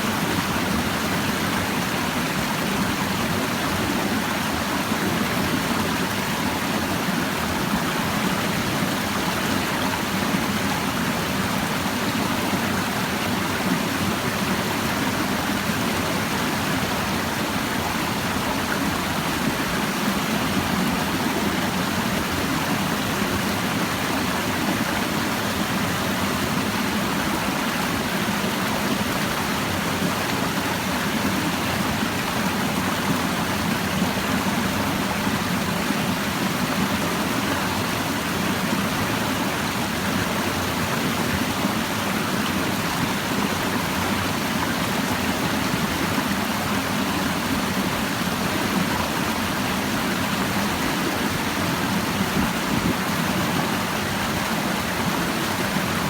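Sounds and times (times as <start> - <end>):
shallow stream babbling: 0.0 - 56.0.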